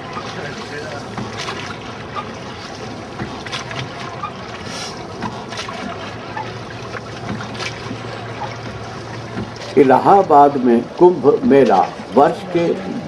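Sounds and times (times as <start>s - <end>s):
boat moving over water: 0.0s - 13.0s
oars knocking: 0.0s - 13.0s.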